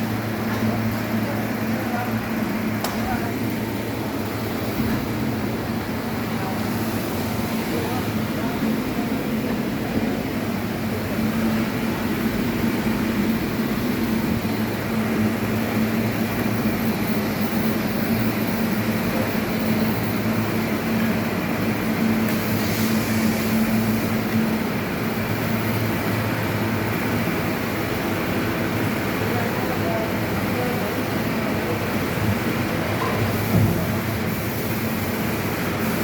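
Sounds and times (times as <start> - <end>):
heavy machinery humming: 0.0 - 36.0.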